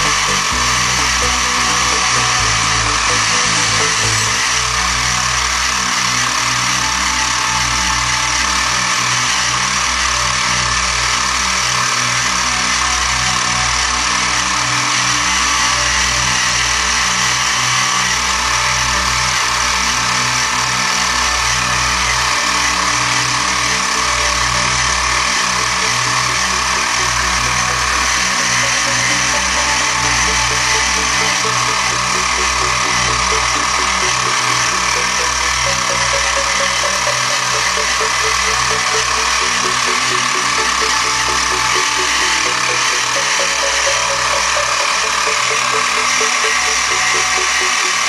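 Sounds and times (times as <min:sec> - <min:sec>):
mill cutting metal: 0:00.0 - 0:48.0.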